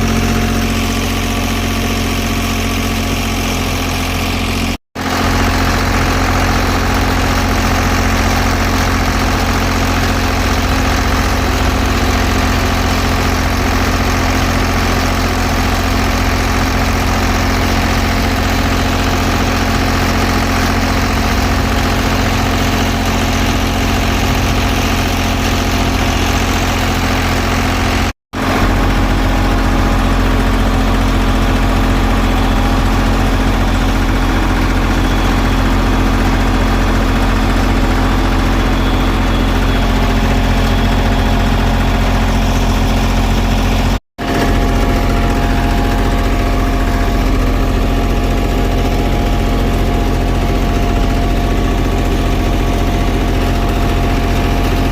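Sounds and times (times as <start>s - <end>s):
heavy machinery engine idling: 0.0s - 54.9s.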